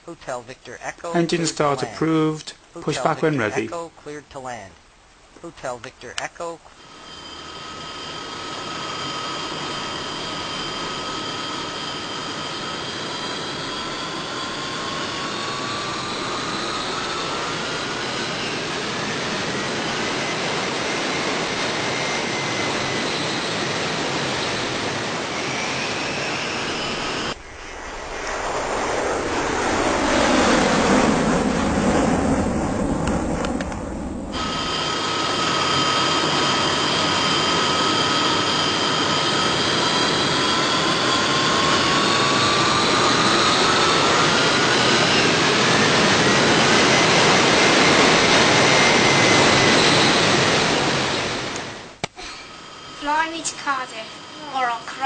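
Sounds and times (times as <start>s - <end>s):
jet engine turbine whine: 6.7s - 55.0s.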